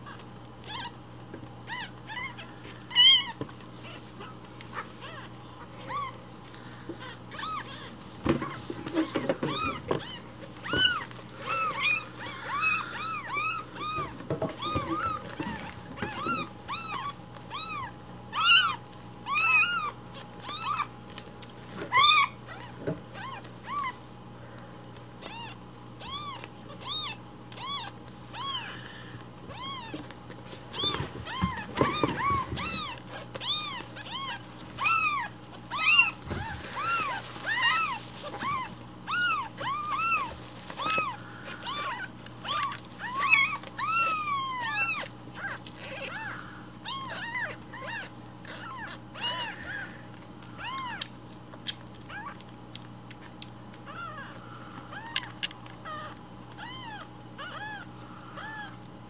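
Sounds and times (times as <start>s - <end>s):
kittens mewing: 0.0s - 59.0s.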